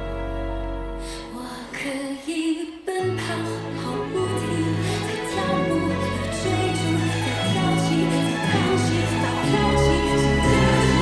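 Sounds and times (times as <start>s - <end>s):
held instrumental chords: 0.0s - 1.6s, 3.5s - 11.0s.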